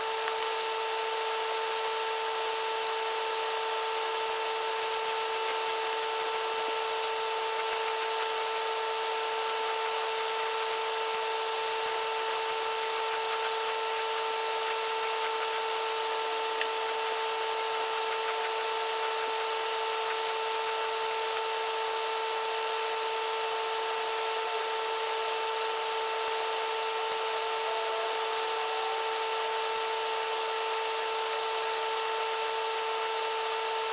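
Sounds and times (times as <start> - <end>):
small motor whining: 0.0 - 33.9.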